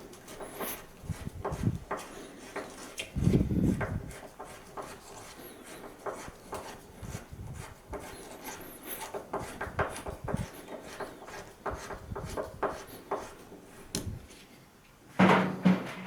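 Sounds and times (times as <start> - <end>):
hands rubbing and scraping hardware: 0.0 - 14.5.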